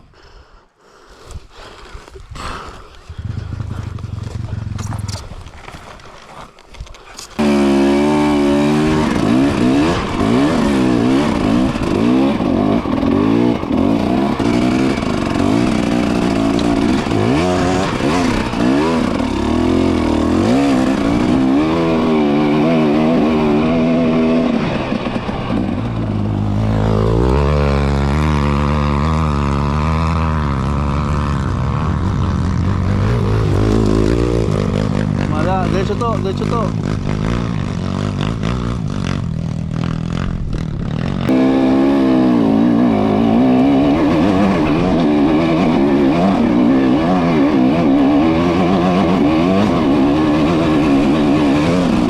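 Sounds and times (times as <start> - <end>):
motorcycle engine running: 3.0 - 52.0.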